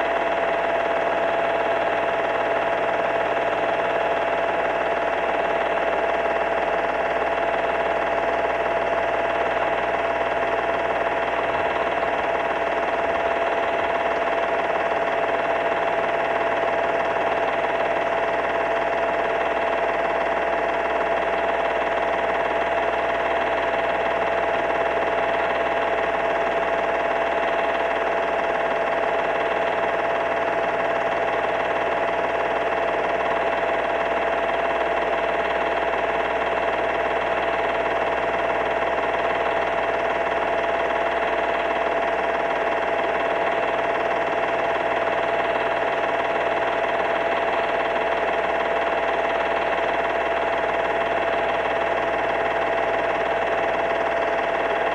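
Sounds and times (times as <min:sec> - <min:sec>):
film projector whirring: 0:00.0 - 0:54.9.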